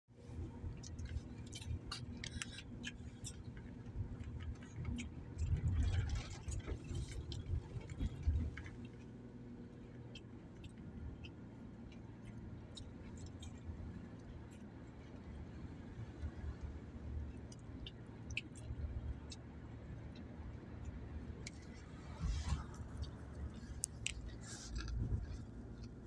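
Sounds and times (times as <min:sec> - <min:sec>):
car cabin road rumble: 0:00.1 - 0:26.0.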